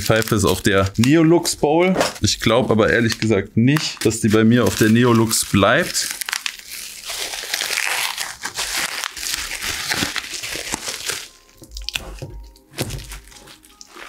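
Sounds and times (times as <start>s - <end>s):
bubble wrap crinkling: 0.0s - 1.6s, 2.2s - 14.0s.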